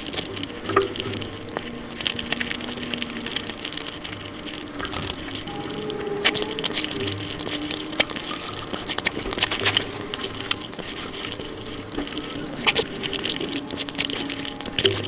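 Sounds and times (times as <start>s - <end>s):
sped-up chewing mouth sounds: 0.0s - 15.0s.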